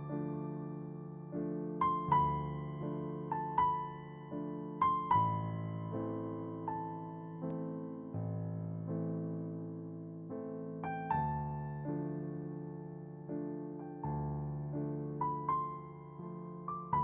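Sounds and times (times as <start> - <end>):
soft electric piano music: 0.0 - 17.0.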